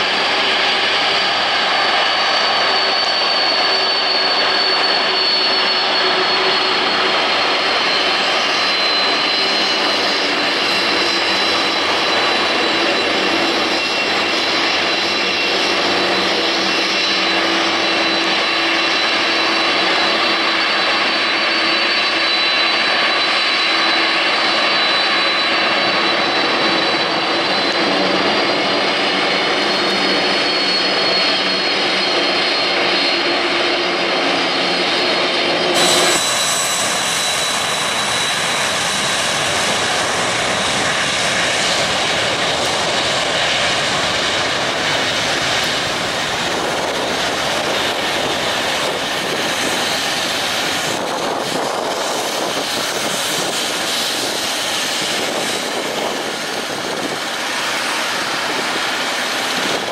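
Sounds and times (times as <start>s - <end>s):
jet engines whining: 0.0s - 59.9s
jet roar: 0.0s - 59.9s.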